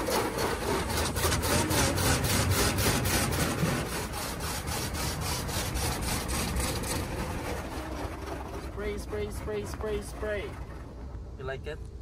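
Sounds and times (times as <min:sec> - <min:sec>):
car wash water spray swishing: 0:00.0 - 0:11.4.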